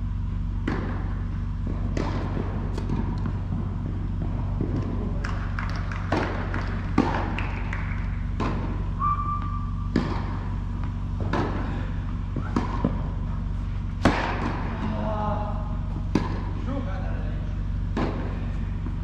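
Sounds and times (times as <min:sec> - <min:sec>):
steady low hum: 0:00.0 - 0:19.0
tennis balls hit and bounced: 0:00.1 - 0:19.0.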